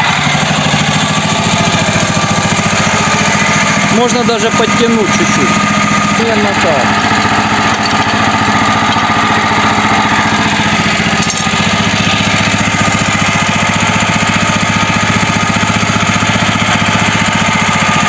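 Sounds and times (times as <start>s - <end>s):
petrol engine running steadily: 0.0s - 18.0s.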